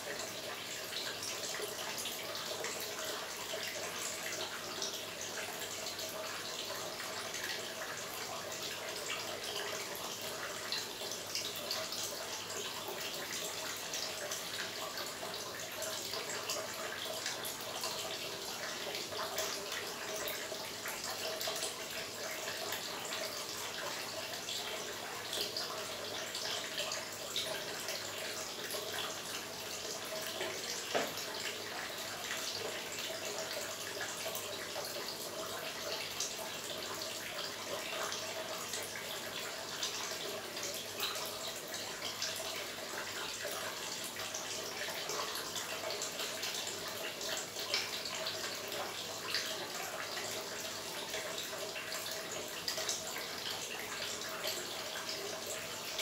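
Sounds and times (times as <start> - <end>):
fountain water trickling: 0.0 - 56.0
water drips: 0.0 - 56.0.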